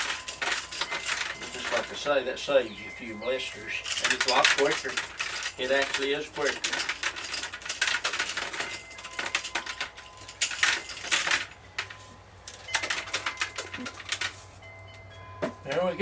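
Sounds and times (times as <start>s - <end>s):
corn kernels rattling and clicking: 0.0s - 14.6s.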